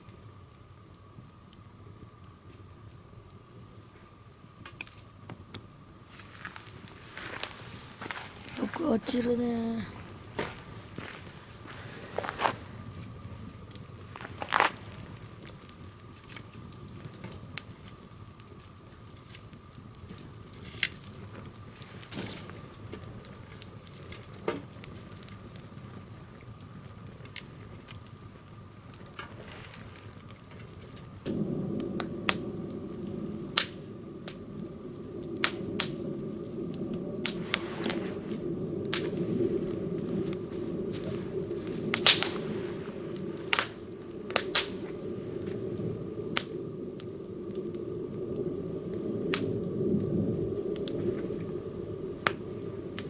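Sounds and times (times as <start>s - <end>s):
low fire hiss: 0.0s - 53.0s
wood fire crackling and popping: 0.0s - 53.0s.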